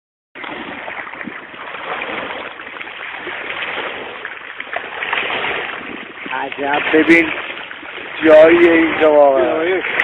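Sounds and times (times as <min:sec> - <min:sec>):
small waves lapping on shore: 0:00.4 - 0:10.0.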